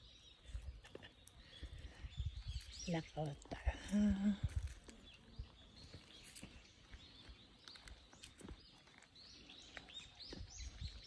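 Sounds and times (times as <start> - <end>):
quiet outdoor background noise: 0.0 - 11.0
small birds chirping: 0.0 - 11.0.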